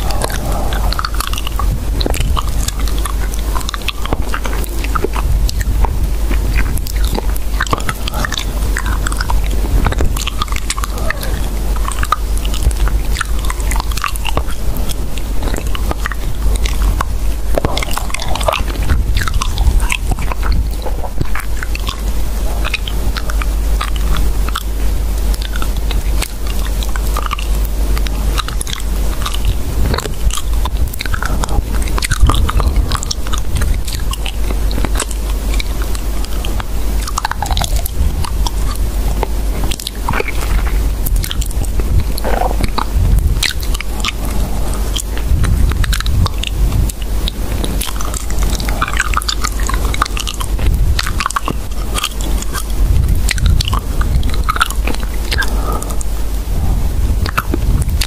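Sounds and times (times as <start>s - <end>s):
dense crunching and crackling clicks: 0.0s - 58.0s
low rumble: 0.0s - 58.0s.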